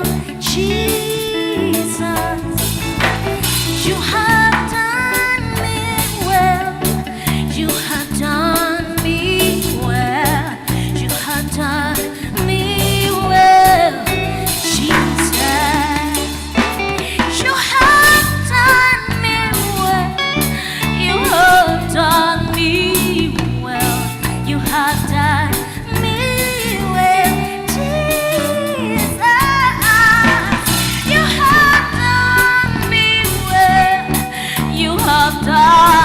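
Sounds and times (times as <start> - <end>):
bass: 0.0 - 36.0
drums keeping a steady beat: 0.0 - 36.0
guitar: 0.0 - 36.0.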